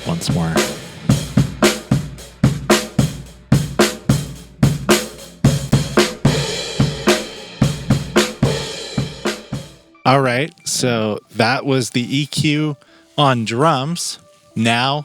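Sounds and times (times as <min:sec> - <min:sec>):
acoustic drum kit playing: 0:00.0 - 0:13.8.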